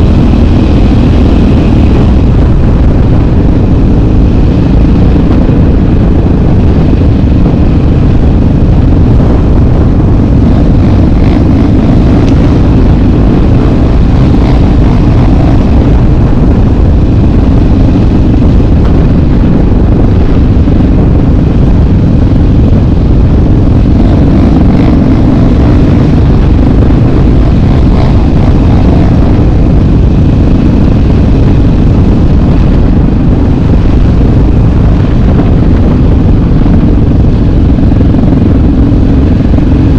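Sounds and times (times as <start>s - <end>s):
atv engine running: 0.0s - 39.9s
wind buffeting microphone: 0.0s - 39.9s.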